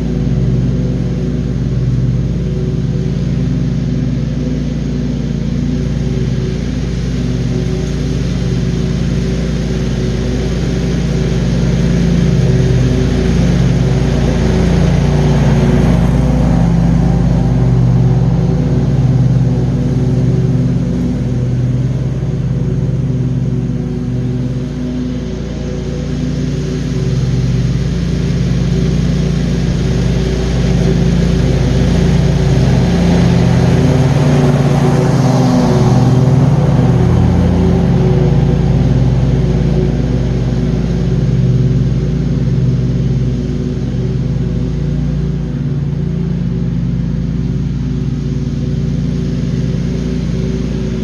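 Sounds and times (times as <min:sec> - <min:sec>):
mower engine drone: 0:00.0 - 0:51.0
rush of noise: 0:00.0 - 0:51.0.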